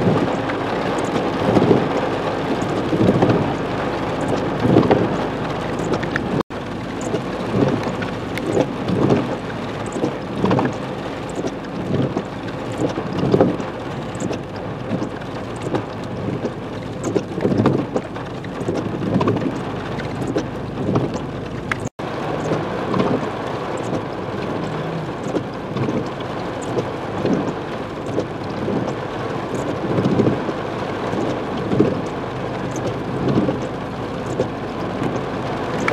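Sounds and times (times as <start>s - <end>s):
heavy rain on car roof: 0.0s - 35.9s.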